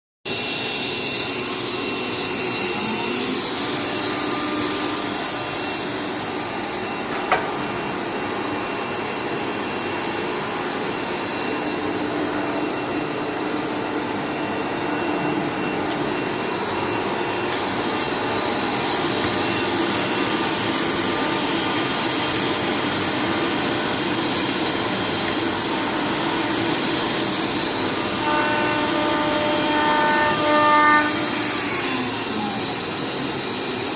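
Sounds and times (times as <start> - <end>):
router spindle whirring: 0.3 - 33.9.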